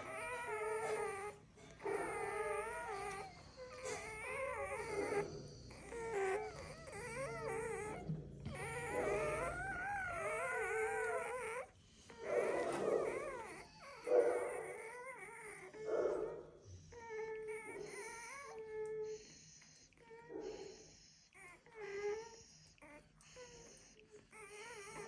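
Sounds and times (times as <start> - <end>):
dogs whining and whimpering: 0.0 - 25.0.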